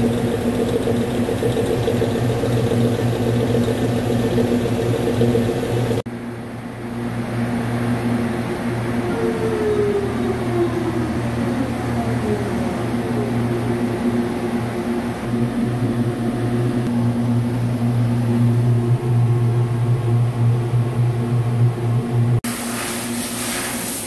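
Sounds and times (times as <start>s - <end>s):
lathe mechanical hum: 0.0s - 22.4s.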